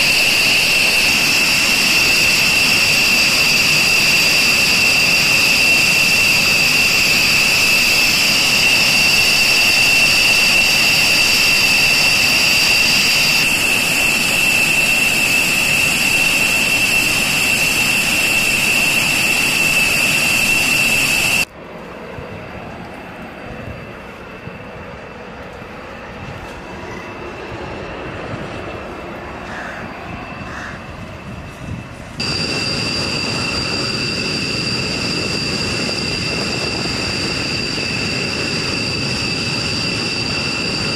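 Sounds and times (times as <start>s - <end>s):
dull jet engine noise: 0.0s - 40.9s
jet engine whine: 0.0s - 40.9s.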